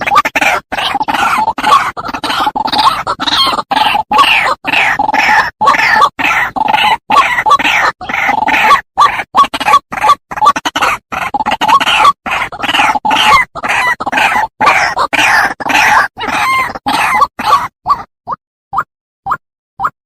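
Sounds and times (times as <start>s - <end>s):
waterhen croaking calls: 0.0s - 20.0s.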